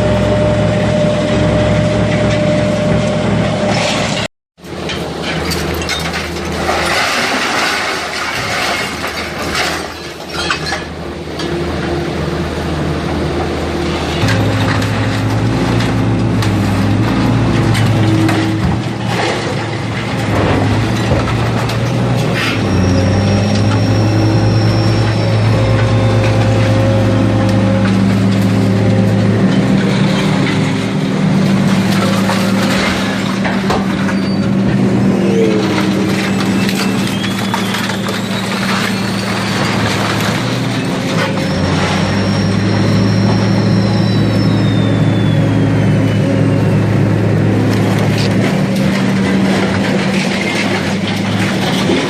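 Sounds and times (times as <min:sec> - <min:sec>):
scrap metal crunching and creaking: 0:00.0 - 0:52.0.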